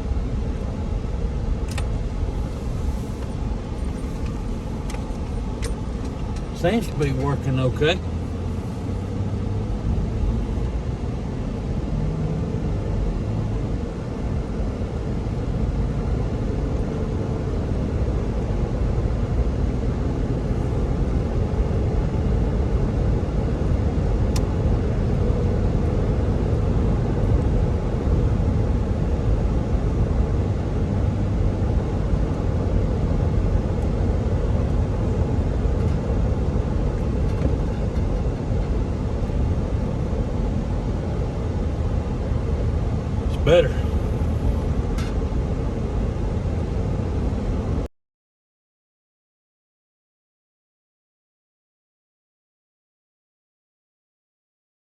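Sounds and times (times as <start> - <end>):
car road noise rumble: 0.0 - 47.9.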